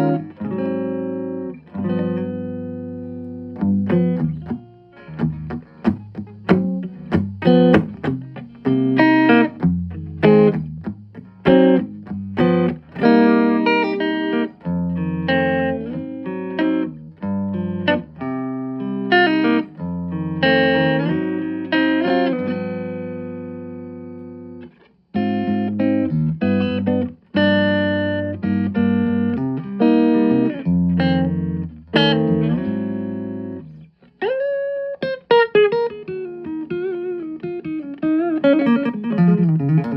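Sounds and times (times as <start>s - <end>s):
clean electric guitar notes and chords: 0.0s - 39.9s.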